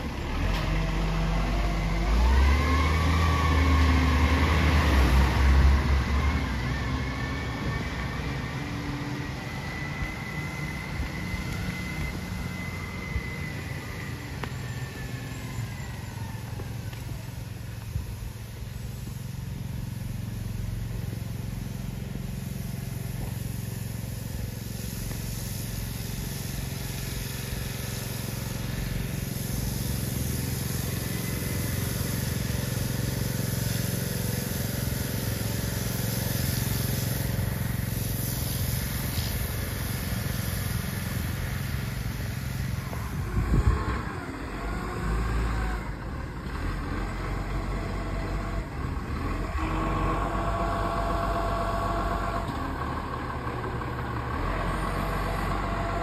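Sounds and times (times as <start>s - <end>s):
garbage truck engine running: 0.0s - 56.0s.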